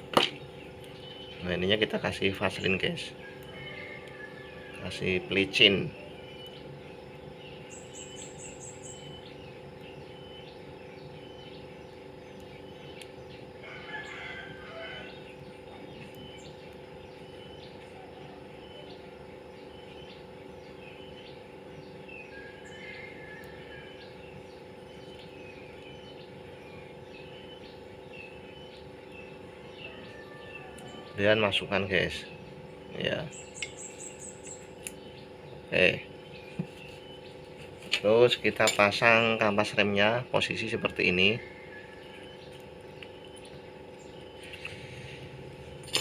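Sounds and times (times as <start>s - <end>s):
faint steady hum: 0.0s - 46.0s
small birds chirping: 0.0s - 46.0s.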